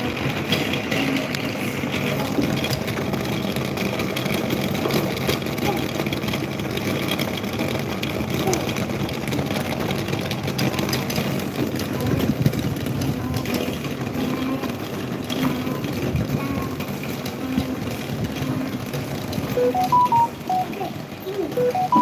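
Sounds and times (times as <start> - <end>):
electric fans running: 0.0 - 22.0.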